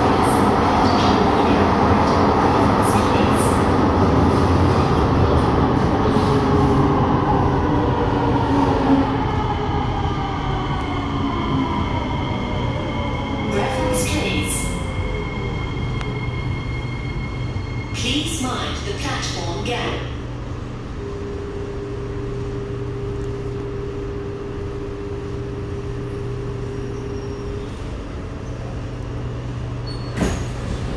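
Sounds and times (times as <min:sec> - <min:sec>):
electric whine of train: 0:00.0 - 0:30.9
train wheels rumbling: 0:00.0 - 0:30.9.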